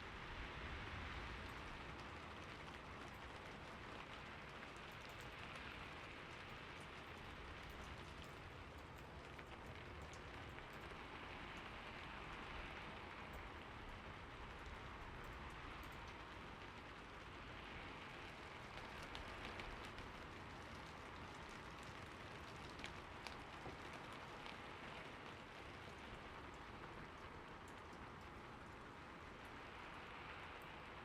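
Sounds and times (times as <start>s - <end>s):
raindrops ticking on a surface: 0.0s - 31.0s
soft rain falling: 0.0s - 31.0s.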